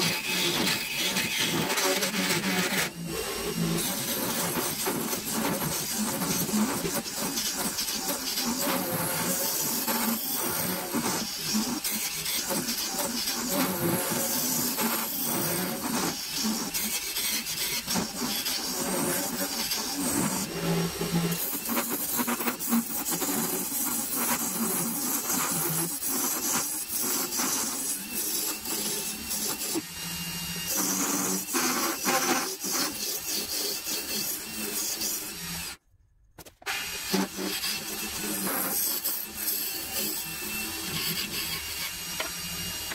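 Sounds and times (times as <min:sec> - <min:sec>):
wood lathe tool scraping wood: 0:00.0 - 0:35.8, 0:36.4 - 0:42.9.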